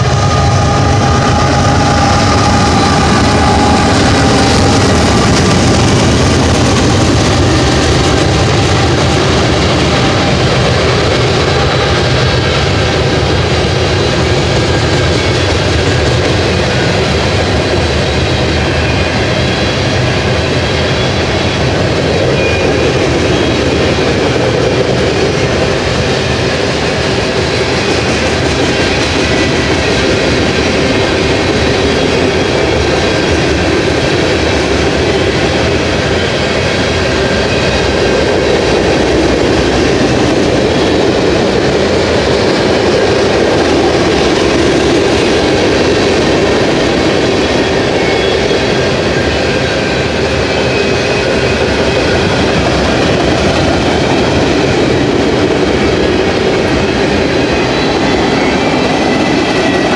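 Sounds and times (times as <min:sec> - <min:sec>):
clickety-clack over rail joints: 0:00.0 - 0:59.9
train wheels rumbling on rails: 0:00.0 - 0:59.9.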